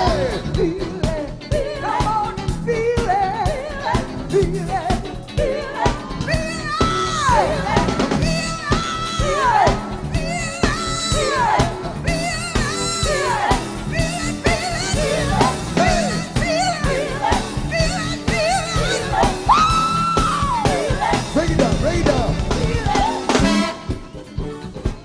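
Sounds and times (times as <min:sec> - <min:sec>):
funk band drum and bass groove: 0:00.0 - 0:25.0.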